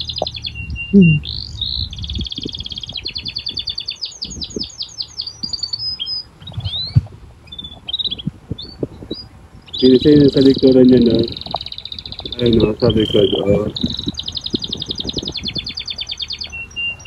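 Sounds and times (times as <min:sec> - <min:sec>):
small birds chirping in trills: 0:00.0 - 0:17.0
tractor engine humming: 0:00.0 - 0:17.0.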